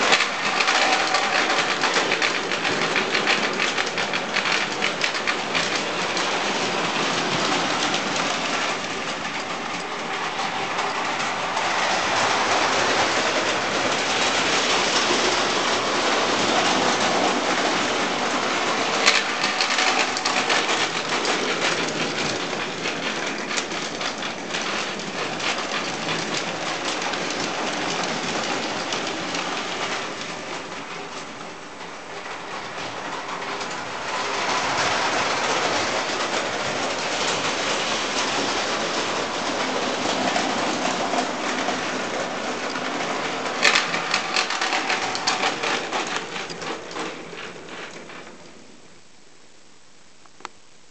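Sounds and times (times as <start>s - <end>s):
toy train rattling over track: 0.0s - 49.0s.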